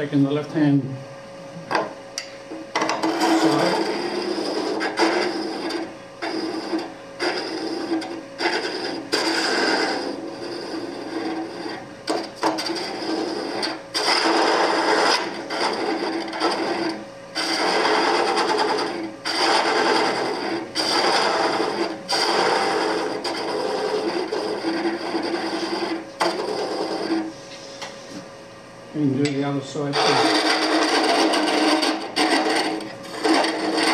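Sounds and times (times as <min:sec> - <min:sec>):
lathe humming: 0:00.0 - 0:33.9
gouge cutting spinning wood: 0:02.8 - 0:27.3, 0:29.9 - 0:33.9.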